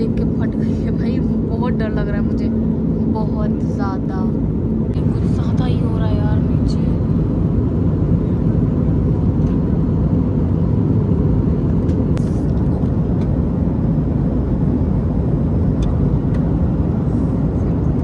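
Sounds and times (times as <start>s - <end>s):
faint steady hum: 0.0s - 18.0s
jet engine and airflow drone: 0.0s - 18.0s.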